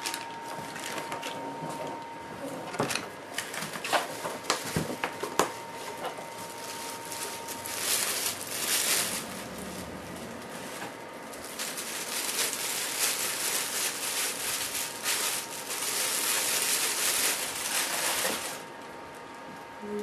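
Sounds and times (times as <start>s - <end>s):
plastic packaging crinkling: 0.0s - 2.1s, 2.8s - 19.2s.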